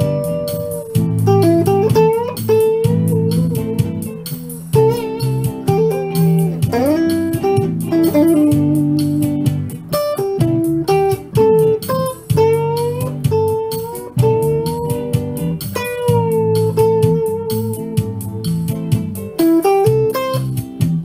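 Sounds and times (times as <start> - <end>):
guitar lead with string bends: 0.0 - 21.0
repeated low bass notes: 0.0 - 21.0.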